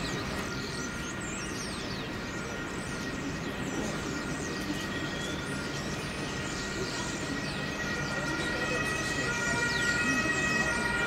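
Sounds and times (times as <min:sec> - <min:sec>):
faint steady high tones: 0:00.0 - 0:11.0
traffic and machinery rumble: 0:00.0 - 0:11.0.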